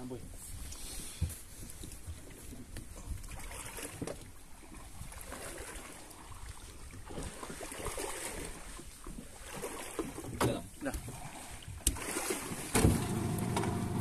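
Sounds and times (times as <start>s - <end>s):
water sloshing against hull: 0.0s - 14.0s.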